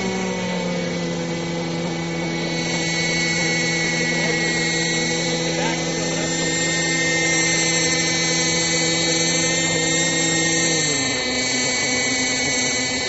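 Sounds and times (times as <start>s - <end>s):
model helicopter high-pitched whine: 0.0s - 13.0s.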